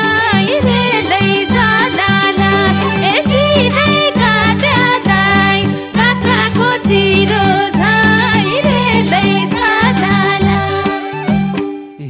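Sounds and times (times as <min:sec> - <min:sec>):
folk music melody: 0:00.0 - 0:12.0
rhythmic accompaniment: 0:00.0 - 0:12.0.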